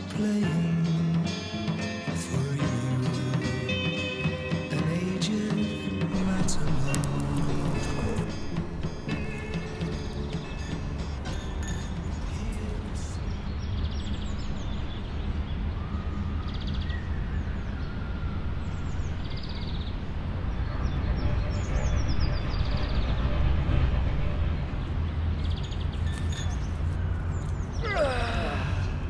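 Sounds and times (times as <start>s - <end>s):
birds chirping: 3.7s - 29.0s.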